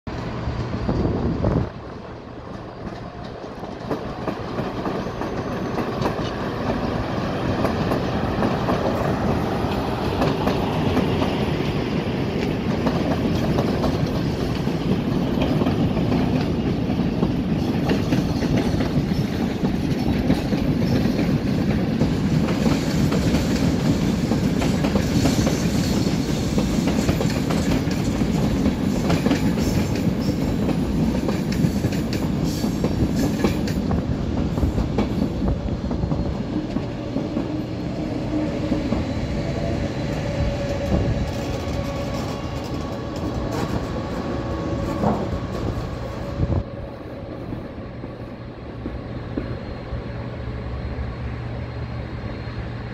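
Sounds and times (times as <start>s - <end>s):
electric locomotive whine: 0.1s - 52.9s
train rumble: 0.1s - 52.9s
train wheels clacking on rail joints: 2.4s - 46.4s.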